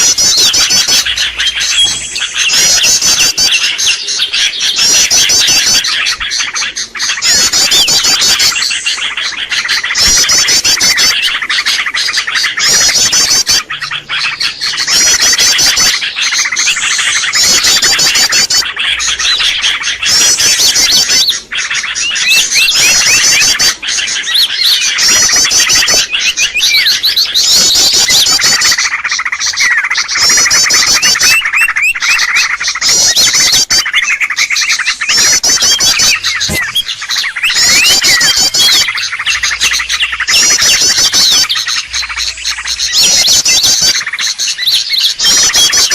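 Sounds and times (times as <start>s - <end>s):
rapid high bird trills: 0.0s - 45.9s
small birds chirping and twittering: 0.0s - 45.9s.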